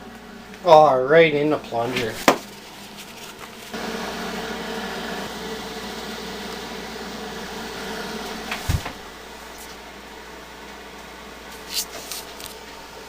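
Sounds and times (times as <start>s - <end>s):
exhaust fan humming: 0.0s - 13.0s.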